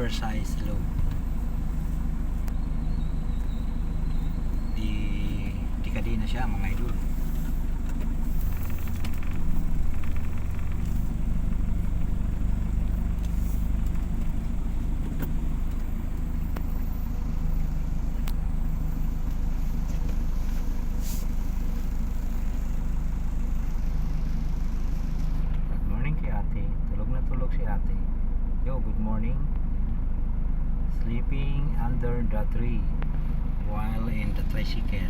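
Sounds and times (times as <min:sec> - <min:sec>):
road noise: 0:00.0 - 0:35.0
vehicle engine drone: 0:00.0 - 0:35.0.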